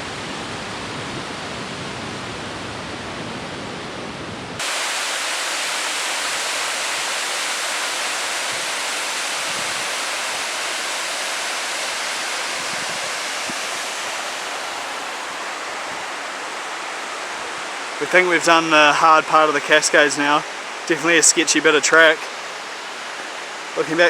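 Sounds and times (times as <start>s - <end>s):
water rushing down a cascade: 4.6s - 24.0s.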